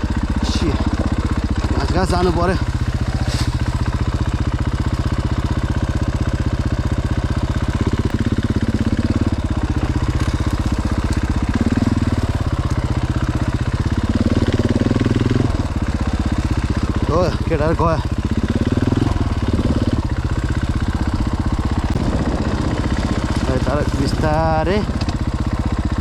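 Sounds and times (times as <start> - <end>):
dirt bike engine chugging: 0.0 - 26.0.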